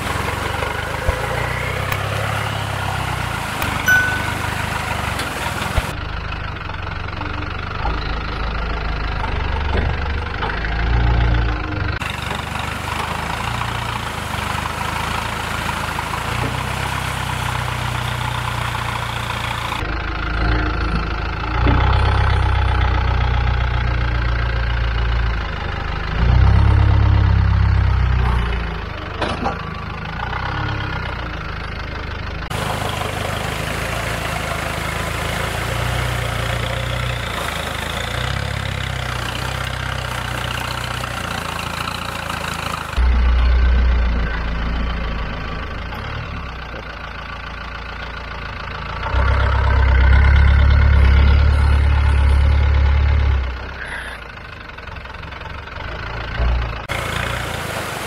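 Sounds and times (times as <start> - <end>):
off-road vehicle engine revving: 0.0 - 31.6, 32.5 - 46.8, 48.7 - 54.2, 55.6 - 58.0.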